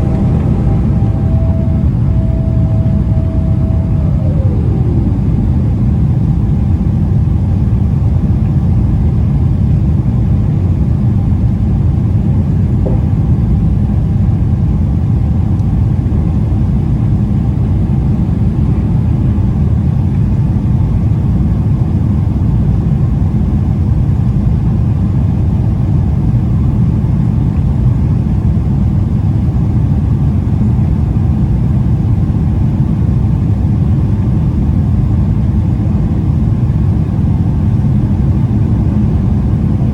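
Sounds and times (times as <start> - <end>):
jet engines and airflow rumbling: 0.0 - 39.9.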